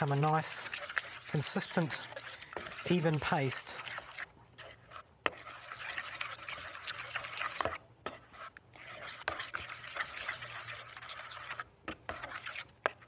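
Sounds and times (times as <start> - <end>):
utensil scraping metal bowl: 0.0 - 13.0.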